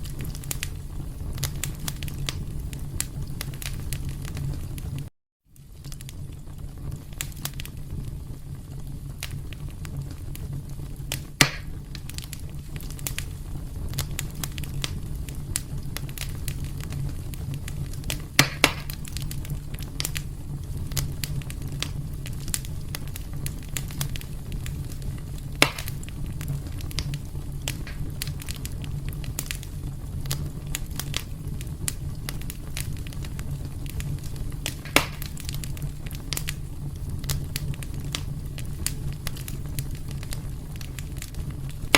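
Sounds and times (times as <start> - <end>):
loud fire pops: 0.0 - 41.9
wood fire crackling: 0.0 - 41.9.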